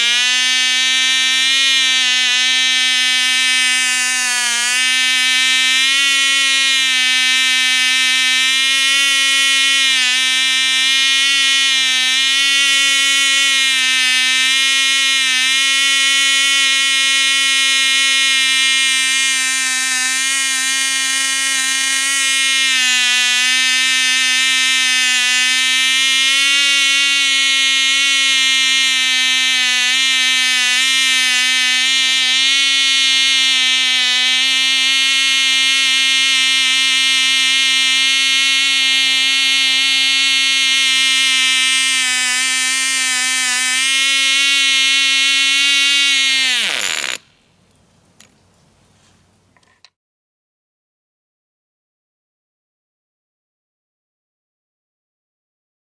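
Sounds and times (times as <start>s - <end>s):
model glow engine buzzing: 0.0s - 47.3s.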